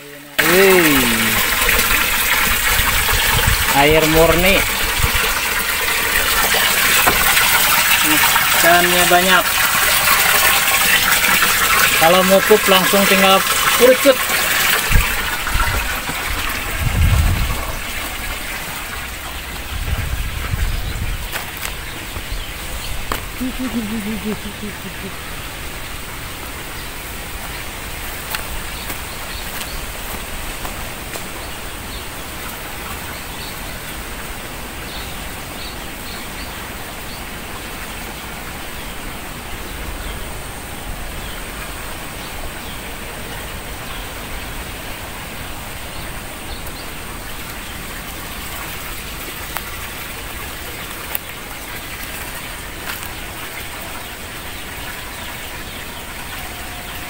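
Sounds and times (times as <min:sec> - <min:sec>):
water-like rushing hiss: 0:00.4 - 0:56.4.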